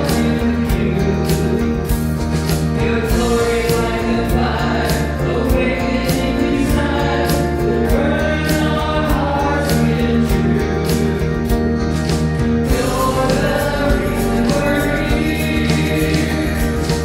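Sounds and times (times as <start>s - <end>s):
group singing in harmony: 0.0s - 17.0s
keyboard backing track: 0.0s - 17.0s
steady drum beat: 0.0s - 17.0s.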